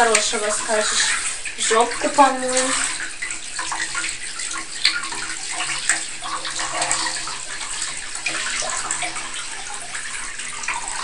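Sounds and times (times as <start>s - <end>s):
shower water spraying: 0.0s - 11.0s.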